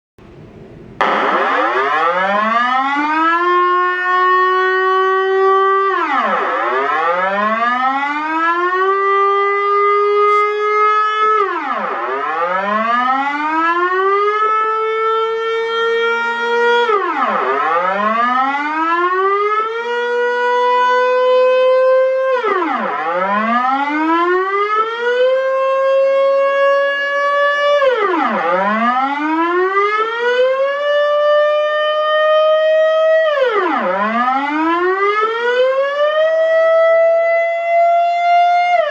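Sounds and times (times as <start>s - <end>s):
air-raid siren wailing: 0.6s - 38.9s.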